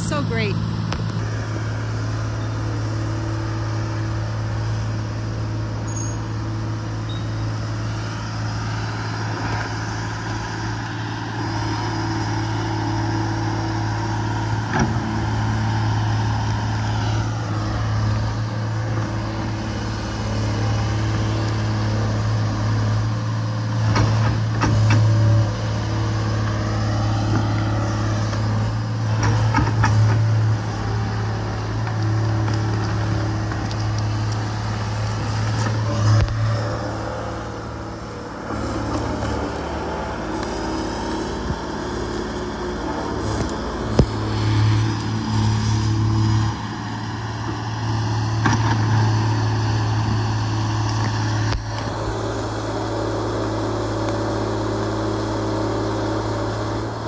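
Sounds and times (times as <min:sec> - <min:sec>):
excavator diesel engine drone: 0:00.0 - 0:57.0.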